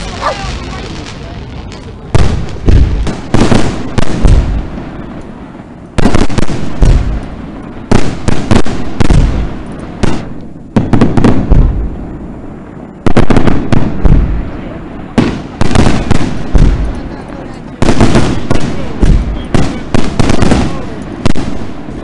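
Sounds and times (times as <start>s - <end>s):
fireworks exploding with echo: 0.0s - 22.0s.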